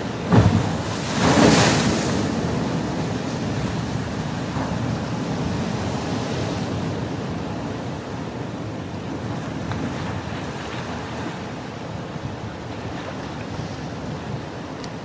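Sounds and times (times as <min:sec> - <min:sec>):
surf washing over rocks: 0:00.0 - 0:15.0.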